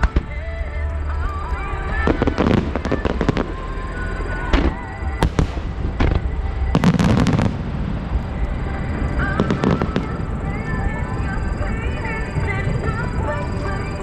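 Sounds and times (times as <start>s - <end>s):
fireworks bangs and crackles: 0.0s - 0.6s, 1.6s - 14.0s
music over loudspeakers: 0.0s - 14.0s.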